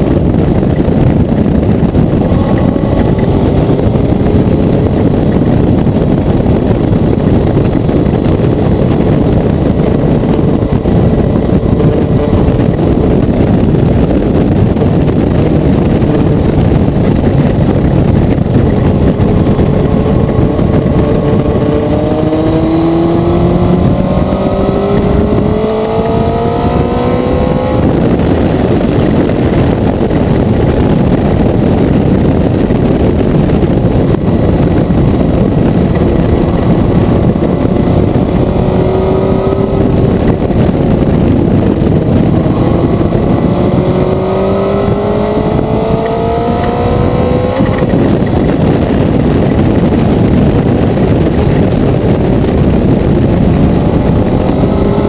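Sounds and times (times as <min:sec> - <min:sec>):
heavy wind rush: 0:00.0 - 0:55.0
motorcycle engine accelerating: 0:00.0 - 0:55.0.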